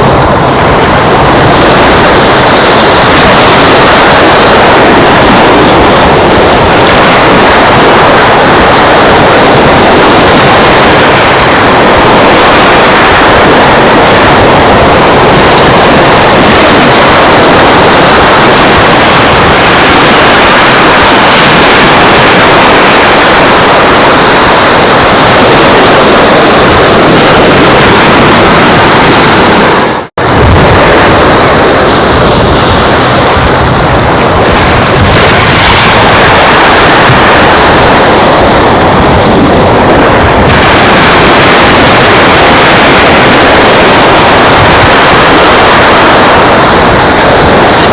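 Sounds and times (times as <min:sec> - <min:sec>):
ocean surf on beach: 0:00.0 - 0:47.9
wind over microphone: 0:00.0 - 0:47.9.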